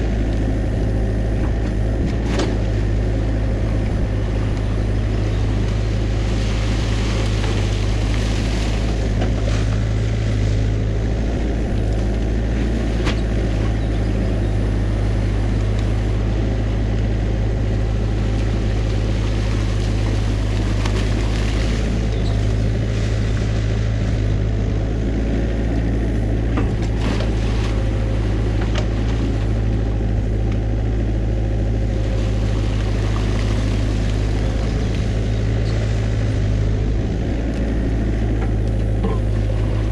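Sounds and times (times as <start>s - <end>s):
diesel excavator engine running: 0.0s - 39.9s.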